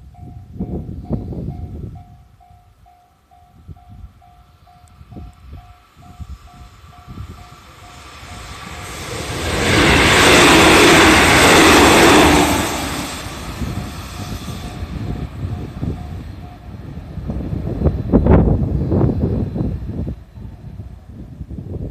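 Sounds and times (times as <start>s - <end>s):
train passing on rails: 0.0s - 21.9s.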